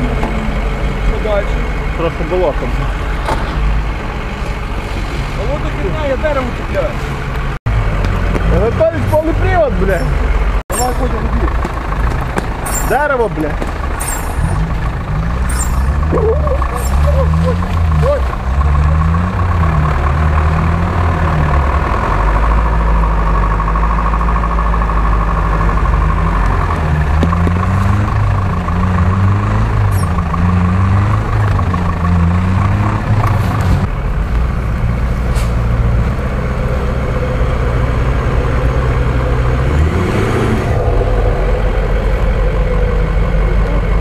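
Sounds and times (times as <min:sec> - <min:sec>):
truck engine revving: 0:00.0 - 0:44.0
pickup engine running at low revs: 0:05.4 - 0:44.0.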